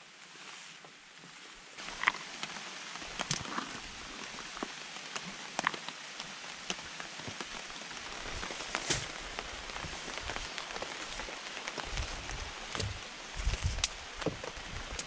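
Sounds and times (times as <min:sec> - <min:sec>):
rain on a tarp: 0:00.0 - 0:15.0.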